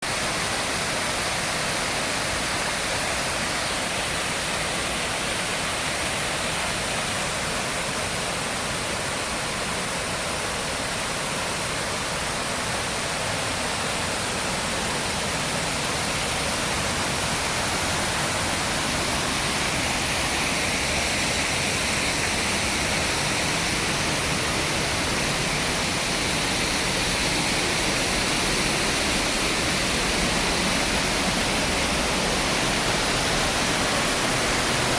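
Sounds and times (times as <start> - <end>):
waterfall rushing into pool: 0.0 - 34.9.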